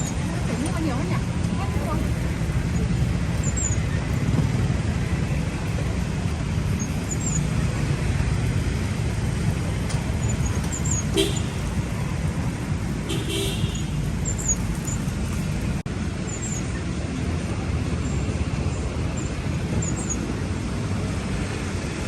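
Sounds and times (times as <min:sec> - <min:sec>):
road traffic engine rumble: 0:00.0 - 0:22.0.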